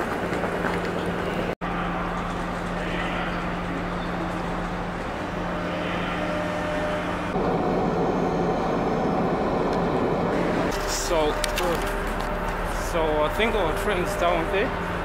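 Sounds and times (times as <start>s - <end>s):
steady low hum: 0.0s - 15.0s
trains and platform noise: 0.0s - 15.0s.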